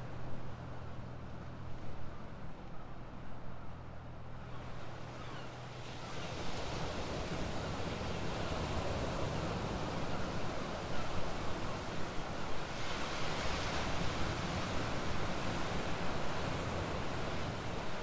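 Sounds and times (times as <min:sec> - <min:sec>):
wind: 0:00.0 - 0:18.0.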